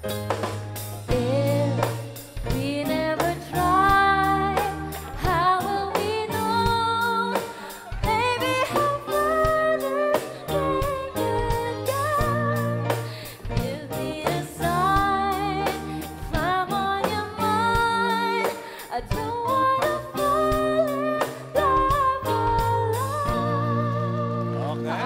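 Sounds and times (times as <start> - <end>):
backing music with drums: 0.0 - 25.0
woman singing: 1.1 - 25.0.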